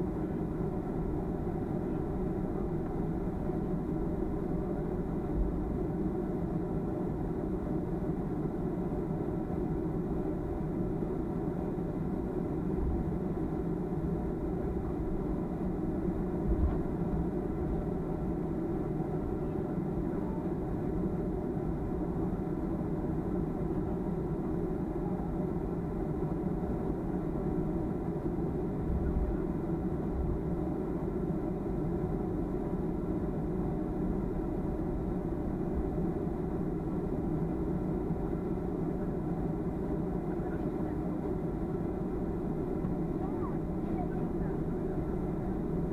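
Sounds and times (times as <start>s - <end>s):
airplane cabin drone: 0.0s - 45.9s.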